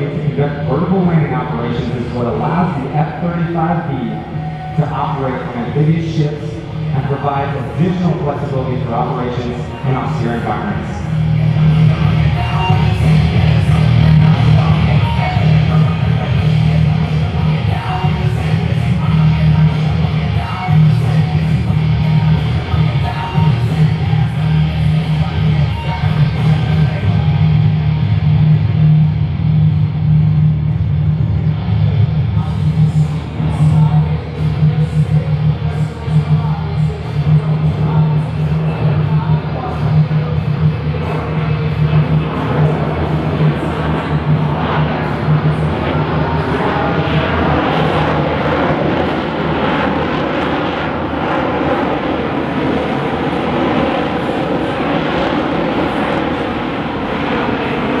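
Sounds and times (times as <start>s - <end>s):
loud jet engine noise: 0.0s - 58.0s
rock music with electric guitar: 0.0s - 58.0s.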